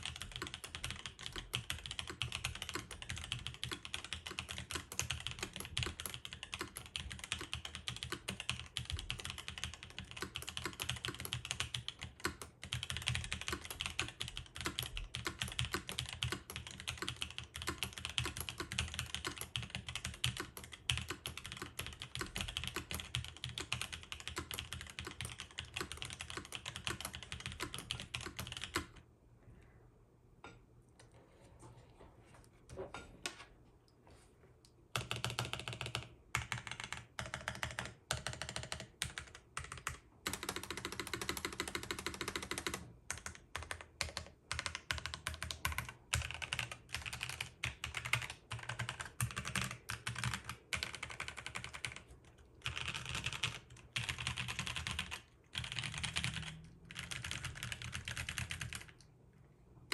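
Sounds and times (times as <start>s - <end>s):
fast typing on mechanical keyboard: 0.0s - 29.0s, 34.9s - 59.0s.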